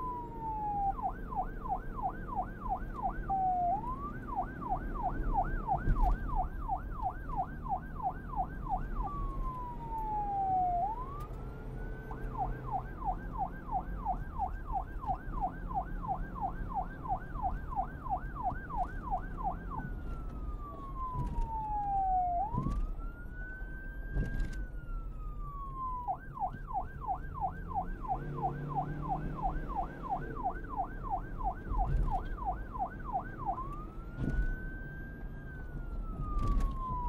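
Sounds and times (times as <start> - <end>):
police siren wailing and yelping: 0.0 - 37.0.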